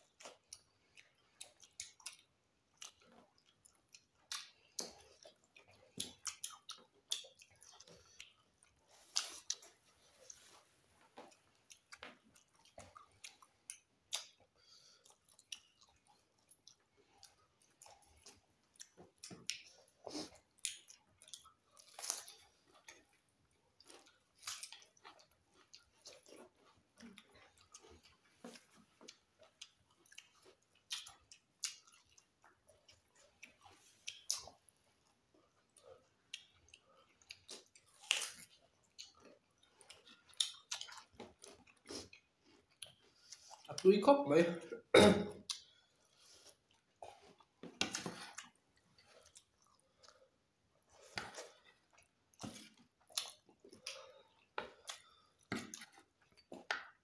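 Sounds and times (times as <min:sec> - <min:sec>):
people chewing food: 0:00.0 - 0:57.0.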